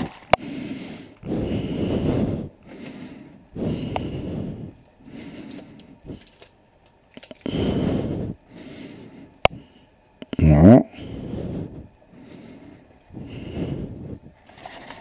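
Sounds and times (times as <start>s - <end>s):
man breathing heavily: 0.0s - 6.6s, 7.2s - 15.0s.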